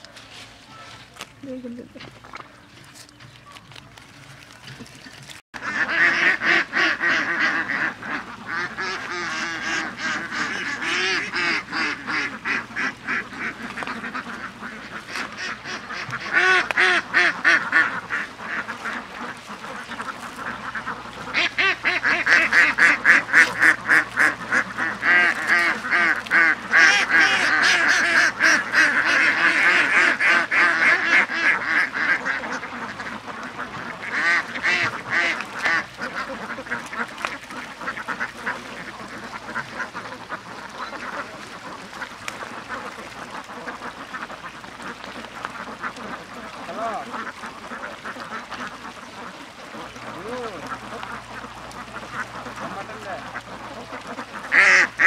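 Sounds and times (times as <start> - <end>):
waterfowl calling: 0.0 - 55.0.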